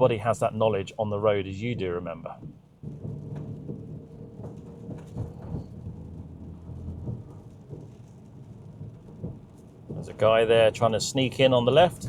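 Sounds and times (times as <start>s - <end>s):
rain ticking on car: 0.0s - 12.0s
tyre and engine rumble: 0.0s - 12.0s.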